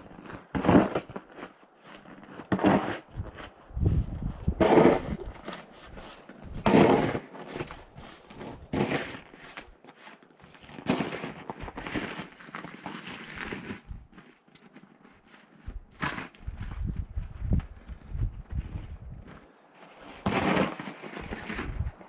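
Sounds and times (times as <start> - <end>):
shovel scooping crunchy snow: 0.0 - 16.9, 19.8 - 22.0.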